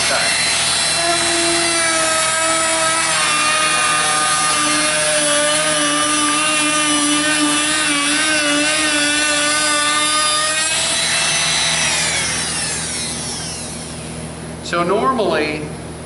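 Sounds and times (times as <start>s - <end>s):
router bit cutting wood: 0.0s - 14.2s
router whine: 0.0s - 15.2s.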